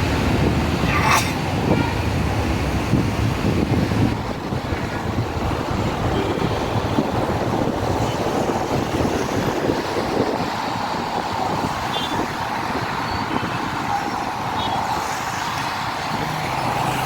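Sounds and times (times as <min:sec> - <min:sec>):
road traffic noise: 0:00.0 - 0:17.0
wind buffeting microphone: 0:00.0 - 0:17.0.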